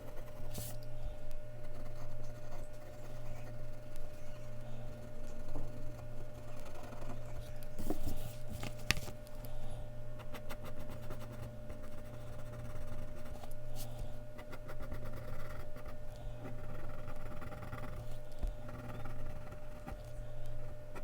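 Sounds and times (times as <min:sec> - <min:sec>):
pencil scratching on paper: 0:00.0 - 0:00.8, 0:01.6 - 0:08.6, 0:10.2 - 0:21.0
steady low hum: 0:00.0 - 0:21.0.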